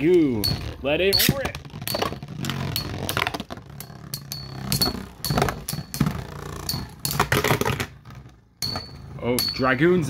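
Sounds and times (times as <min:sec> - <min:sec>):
low whir of spinning tops: 0:01.3 - 0:09.6.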